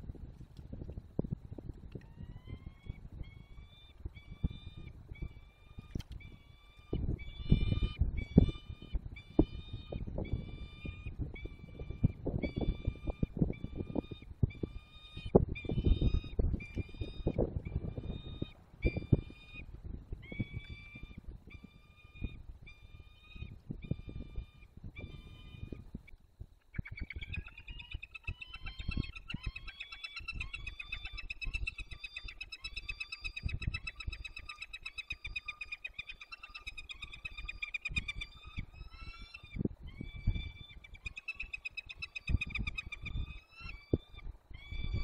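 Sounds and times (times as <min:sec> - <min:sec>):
falcon calling: 0:02.0 - 0:25.8, 0:26.6 - 0:45.0.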